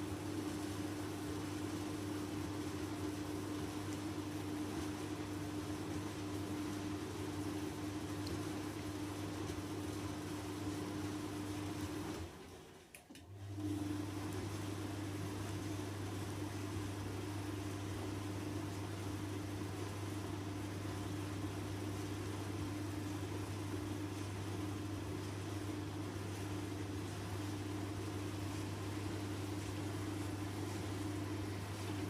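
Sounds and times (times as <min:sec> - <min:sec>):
tumble dryer running: 0:00.0 - 0:32.0.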